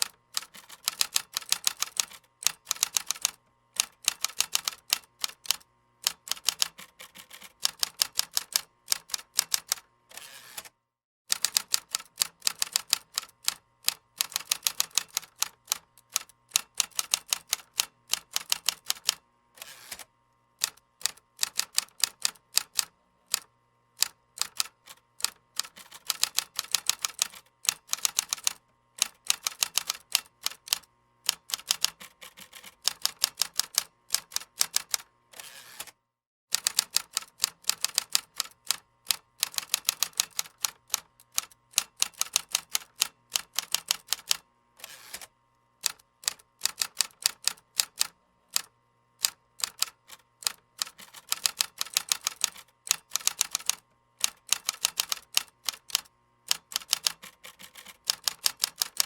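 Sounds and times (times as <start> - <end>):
computer keyboard typing: 0.0 - 9.8, 11.3 - 19.2, 20.6 - 35.1, 36.5 - 44.4, 45.8 - 59.0.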